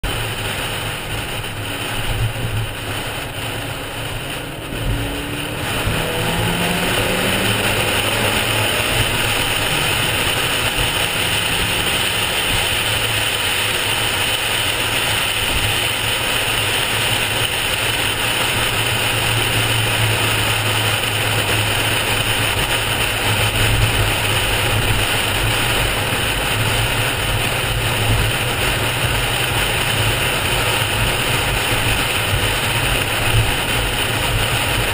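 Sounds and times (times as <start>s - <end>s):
car engine: 0.0s - 34.9s
wind noise: 0.0s - 34.9s.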